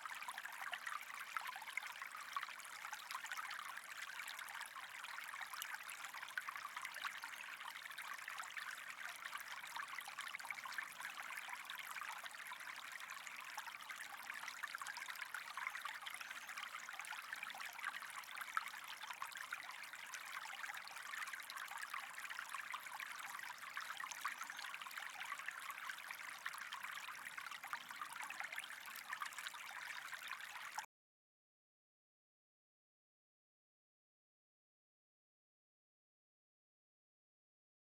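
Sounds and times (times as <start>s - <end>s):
running trickling water: 0.1s - 30.9s.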